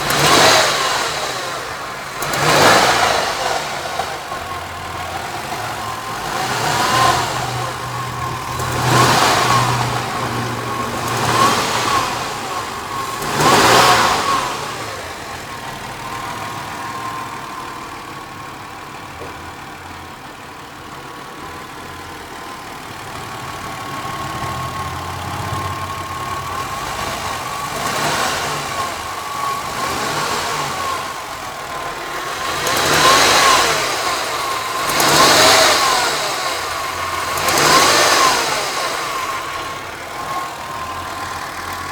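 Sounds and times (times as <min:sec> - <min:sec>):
car engine revving: 0:00.0 - 0:18.9, 0:21.5 - 0:41.9.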